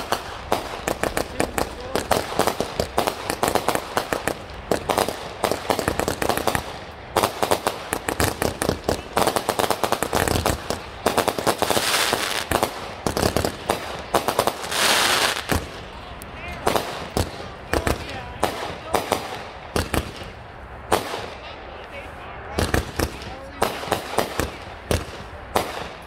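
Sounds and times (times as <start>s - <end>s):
fireworks shots and pops: 0.0s - 15.9s, 16.6s - 21.4s, 22.6s - 26.0s
fireworks crackle: 0.0s - 26.0s.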